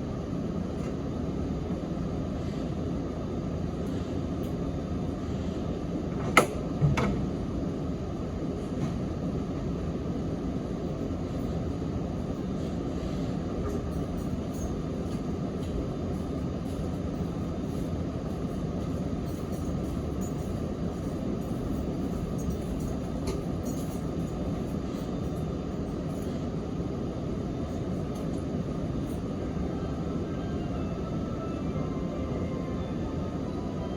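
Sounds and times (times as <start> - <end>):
train rumbling from inside: 0.0 - 33.9.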